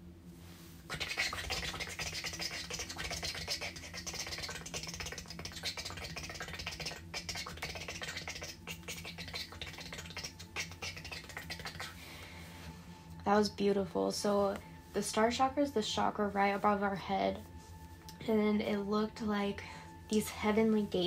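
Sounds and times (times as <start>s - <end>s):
low hum: 0.0s - 21.0s
scratchy crackling hiss: 0.0s - 21.0s.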